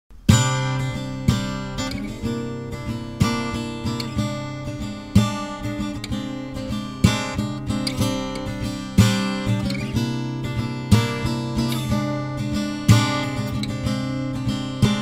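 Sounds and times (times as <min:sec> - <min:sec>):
acoustic guitar strumming: 0:00.1 - 0:15.0.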